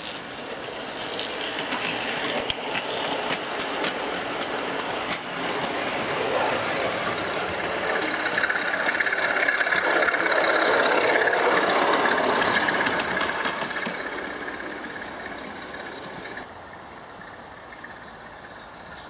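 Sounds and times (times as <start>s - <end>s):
wheels clicking: 0.0s - 16.5s
model train rolling on track: 0.0s - 19.0s.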